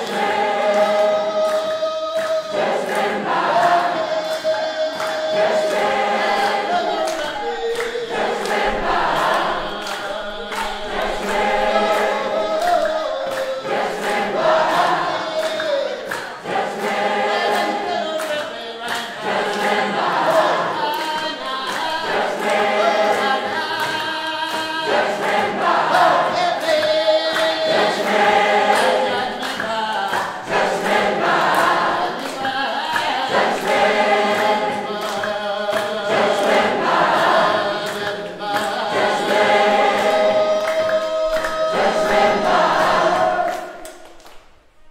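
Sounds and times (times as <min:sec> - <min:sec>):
group singing in chorus: 0:00.0 - 0:44.9
hand clapping: 0:00.0 - 0:44.9.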